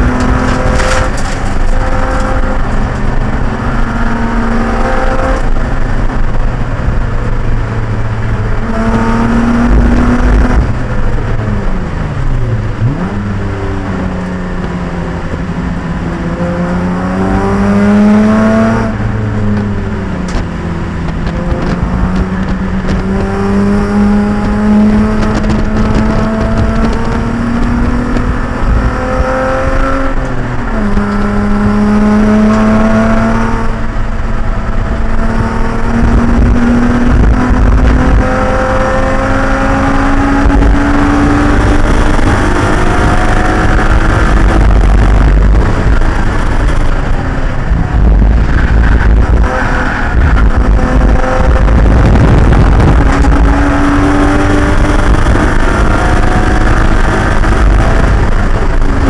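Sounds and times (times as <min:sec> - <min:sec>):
race car engine: 0:00.0 - 0:59.0
road and wind noise: 0:00.0 - 0:59.0.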